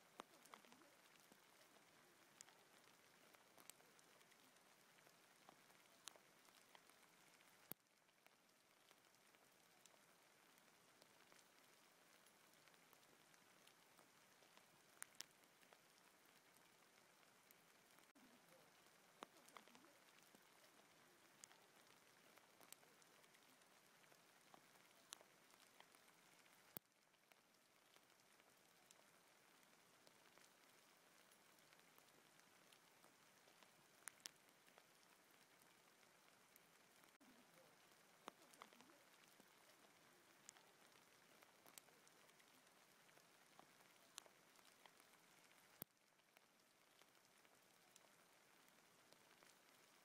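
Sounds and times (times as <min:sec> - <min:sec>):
hail falling on forest floor: 0:00.0 - 0:42.9.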